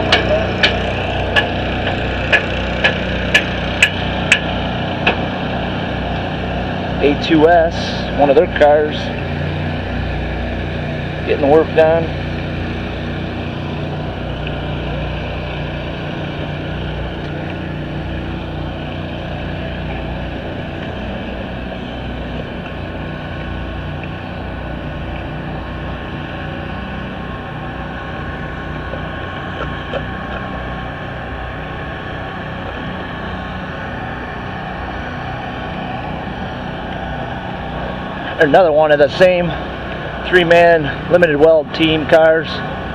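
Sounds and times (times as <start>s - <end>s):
engines droning: 0.0s - 42.9s.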